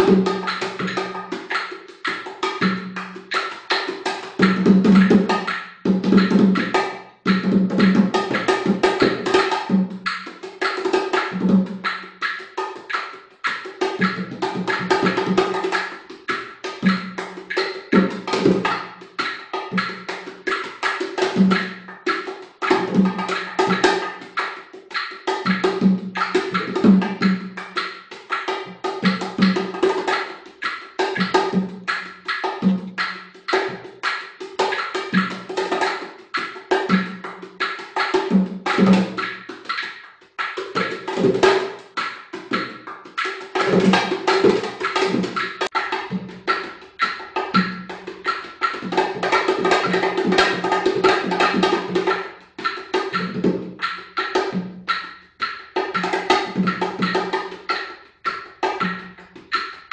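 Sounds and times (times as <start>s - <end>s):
bongo drums played by hand: 0.0s - 59.9s
handheld percussion clicks: 7.3s - 59.9s.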